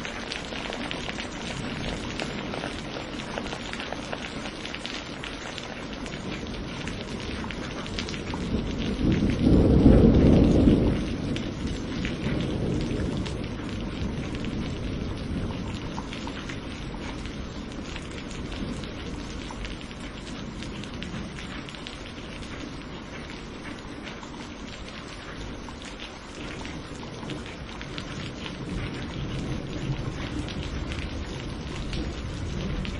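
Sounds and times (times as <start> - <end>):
rain pattering: 0.0 - 32.9
thunder rumbling: 6.2 - 32.9.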